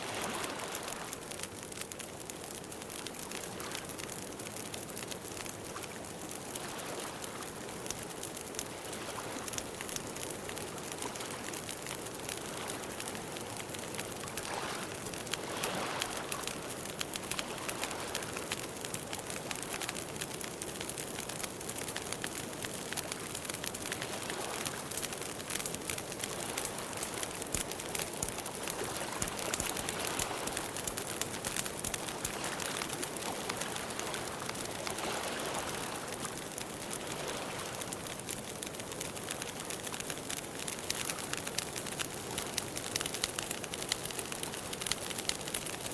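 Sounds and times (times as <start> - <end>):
campfire crackling: 0.0 - 45.9.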